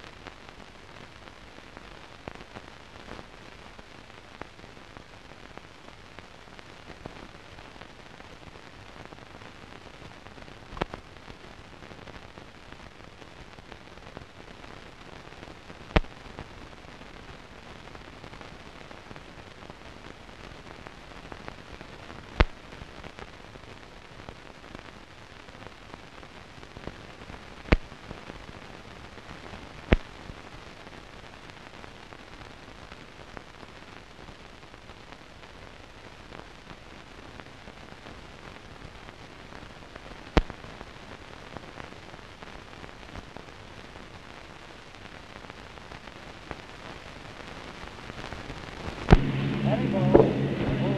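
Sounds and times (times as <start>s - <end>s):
film hiss: 0.0s - 50.9s.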